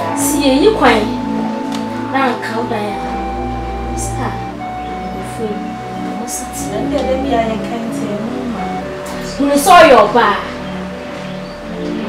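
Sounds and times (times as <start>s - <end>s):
slow melodic music: 0.0s - 12.0s.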